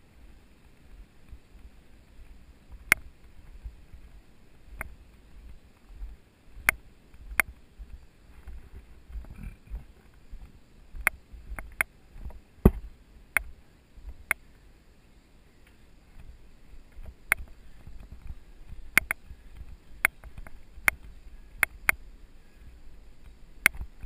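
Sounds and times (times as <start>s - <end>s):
wind rumble on microphone: 0.0s - 14.3s, 16.0s - 24.0s.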